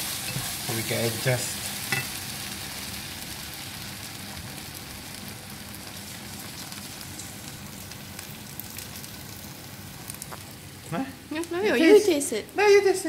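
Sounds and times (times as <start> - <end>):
paste sizzling in frying pan: 0.0 - 12.7.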